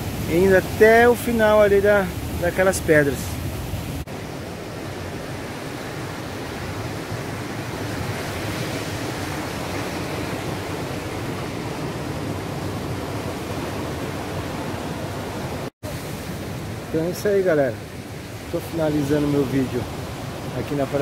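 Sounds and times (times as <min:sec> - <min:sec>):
ocean surf breaking on beach: 0:00.0 - 0:21.0.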